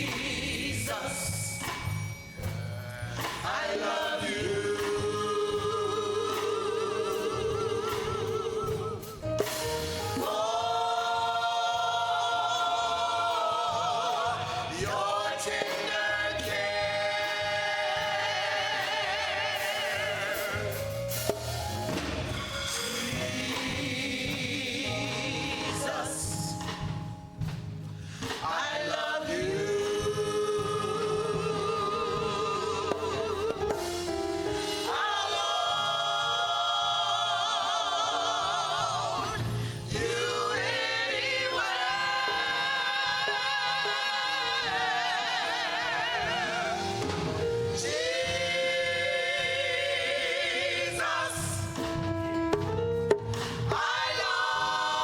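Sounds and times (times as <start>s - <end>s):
gospel singing with music: 0.0s - 55.0s.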